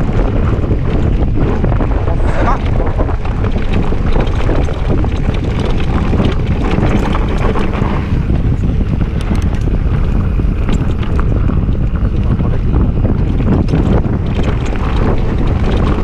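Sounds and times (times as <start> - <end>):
bike clicks and rattles: 0.0 - 16.0
mountain bike tyre noise: 0.0 - 16.0
wind buffeting microphone: 0.0 - 16.0.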